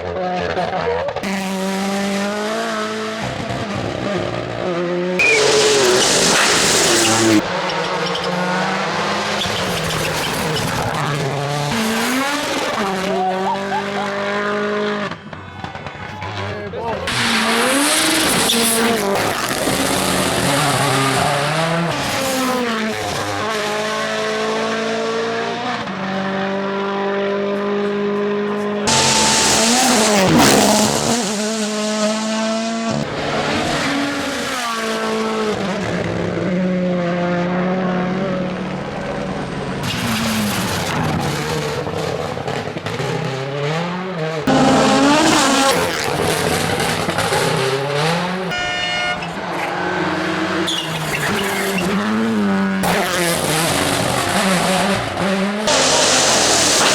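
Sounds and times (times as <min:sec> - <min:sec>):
rally car engines revving: 0:00.0 - 0:56.9.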